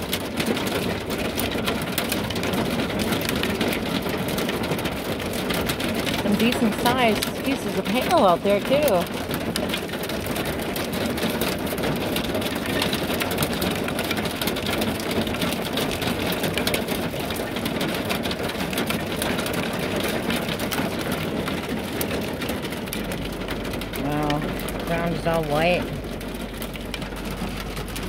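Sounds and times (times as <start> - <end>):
hail and rain on a van roof: 0.0 - 28.0.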